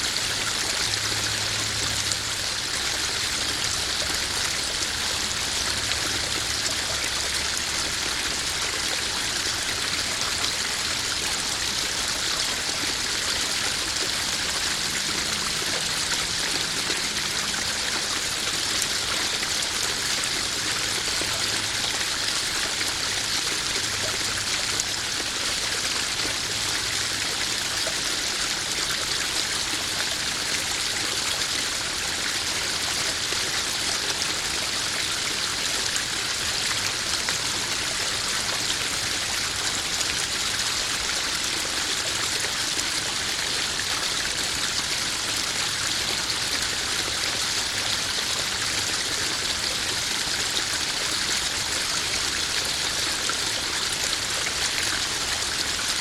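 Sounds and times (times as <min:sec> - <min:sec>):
water trickling into pond: 0:00.0 - 0:56.0.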